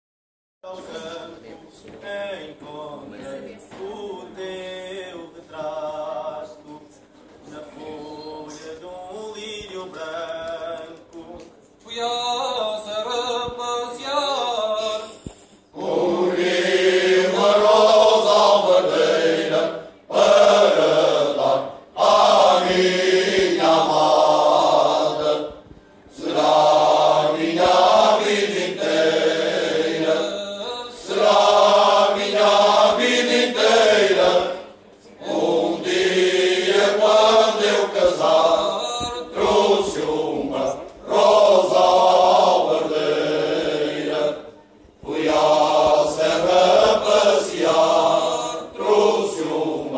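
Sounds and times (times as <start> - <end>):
male choir singing unaccompanied: 0.6 - 15.1, 15.7 - 49.9.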